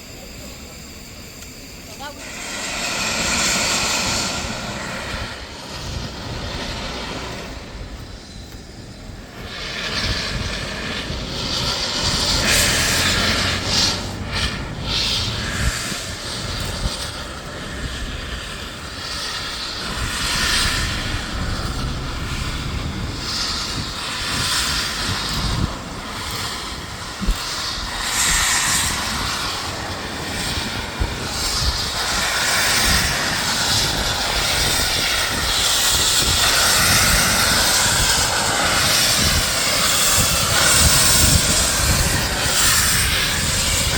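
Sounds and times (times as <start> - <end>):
steam locomotive chuffing: 0.0 - 43.9.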